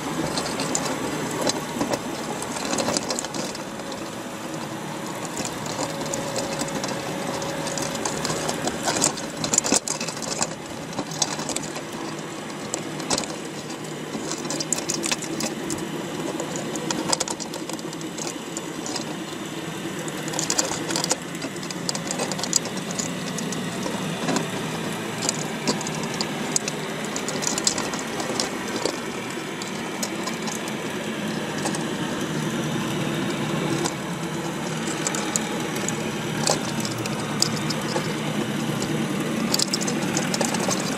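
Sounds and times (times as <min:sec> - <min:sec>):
crab shells clicking and scraping: 0:00.0 - 0:40.9
low underwater hum: 0:00.0 - 0:40.9.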